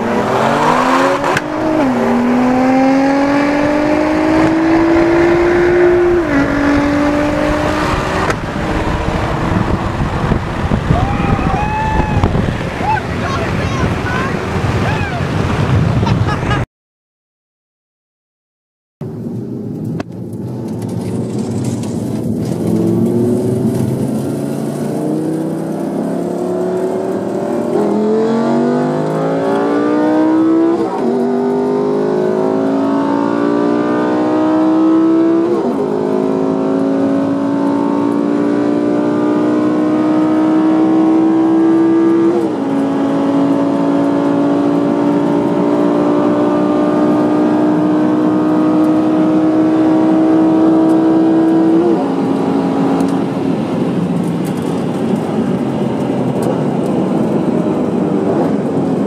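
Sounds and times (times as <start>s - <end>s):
car engine revving at full throttle: 0.0s - 16.6s, 19.9s - 59.0s.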